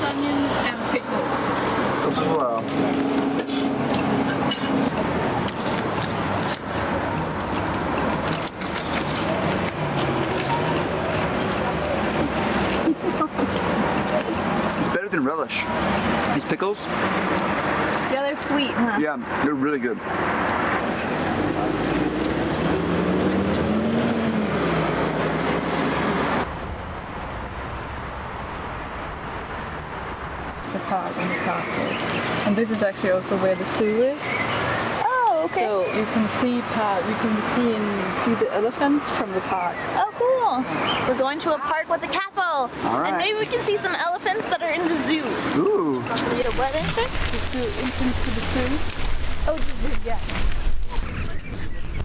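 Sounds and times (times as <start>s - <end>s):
busy street noise: 0.0s - 52.0s
outdoor background: 0.0s - 52.0s.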